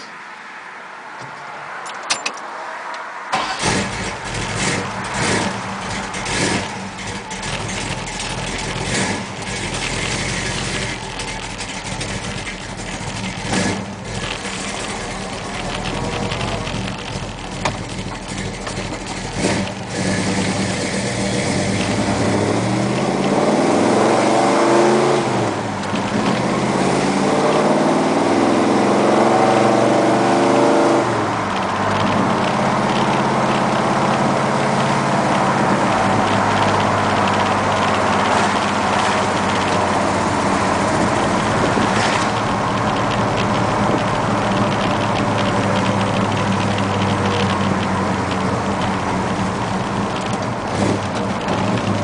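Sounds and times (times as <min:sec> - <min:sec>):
car engine starting: 0:01.7 - 0:52.0
car engine idling with throttle blips: 0:03.3 - 0:52.0
car engine revving and accelerating: 0:03.3 - 0:52.0.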